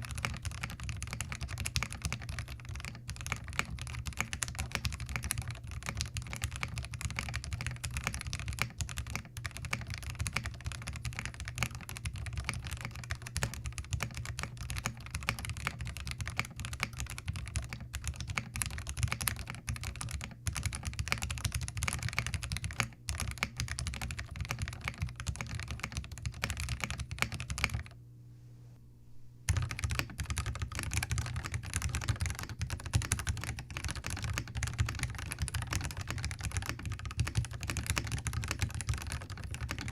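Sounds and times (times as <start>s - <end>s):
mechanical keyboard typing: 0.0s - 28.0s, 29.5s - 39.9s.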